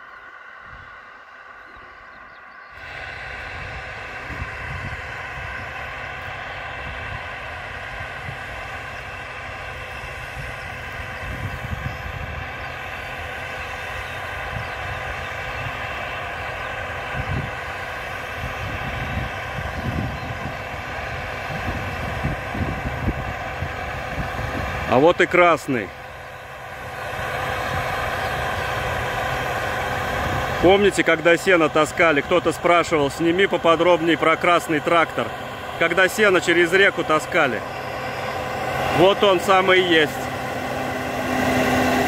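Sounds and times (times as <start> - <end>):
low gusty rumble: 0.0 - 42.0
tractor diesel engine running: 0.0 - 42.0.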